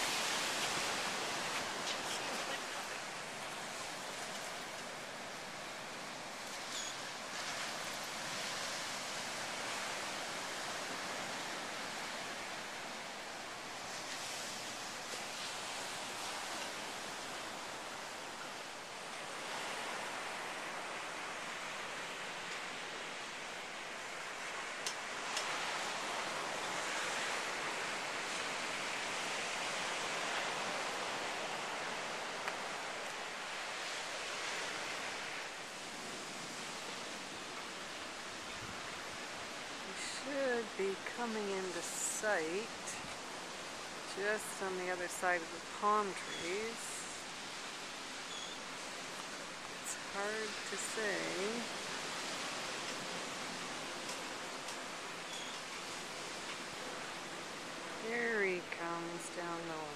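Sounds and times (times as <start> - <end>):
ocean surf hissing: 0.0 - 59.9.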